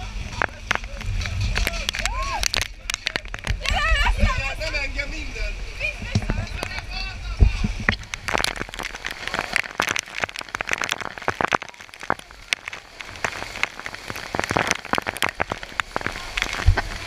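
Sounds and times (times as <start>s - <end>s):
heavy rain pelting down: 0.0s - 17.0s.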